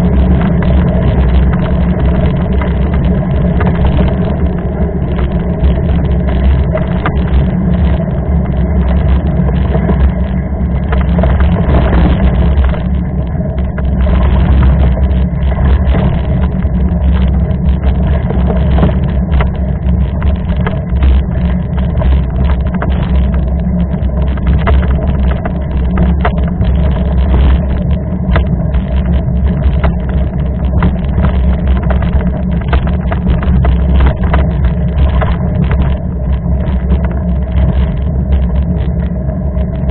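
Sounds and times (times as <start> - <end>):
bike rattling on rough trail: 0.0 - 39.9
wind rumbling on microphone: 0.0 - 39.9.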